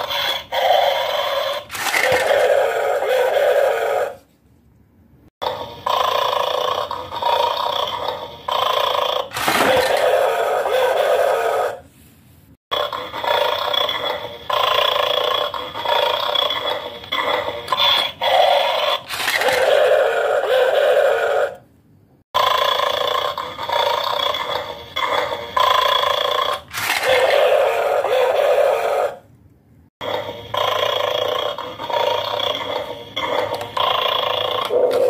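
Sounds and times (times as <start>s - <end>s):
electronic dog sounds from toy: 0.0s - 4.2s, 5.4s - 11.8s, 12.7s - 21.6s, 22.4s - 29.2s, 30.0s - 35.0s.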